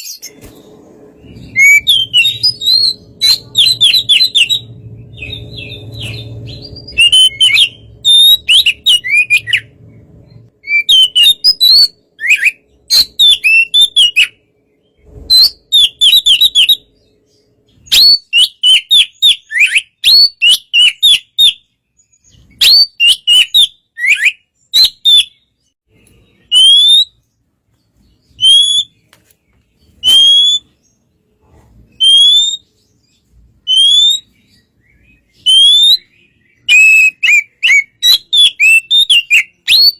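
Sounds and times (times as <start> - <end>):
bird singing whistled phrases: 1.2 - 9.7, 10.6 - 14.4, 15.2 - 16.9, 17.7 - 27.2, 28.2 - 29.0, 30.0 - 30.8, 31.9 - 32.8, 33.6 - 39.9.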